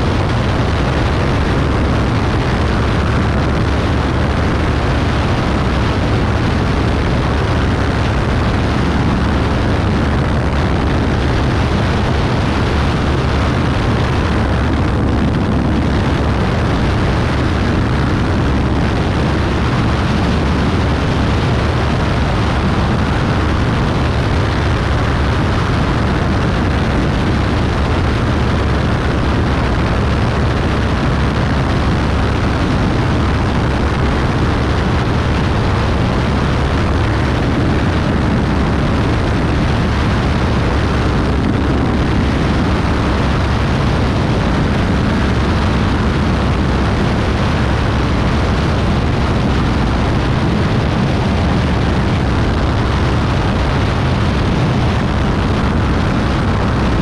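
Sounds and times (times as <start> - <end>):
airplane engine and propeller: 0.0 - 57.0
wind rush on microphone: 0.0 - 57.0.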